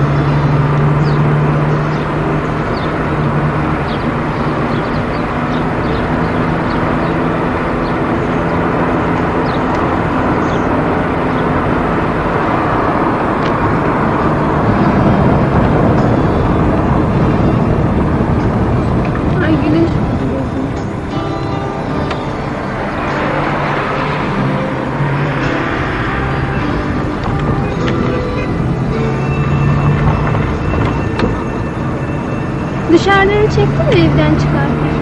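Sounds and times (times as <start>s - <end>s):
low engine hum: 0.0s - 35.0s
road and wind noise: 0.0s - 35.0s.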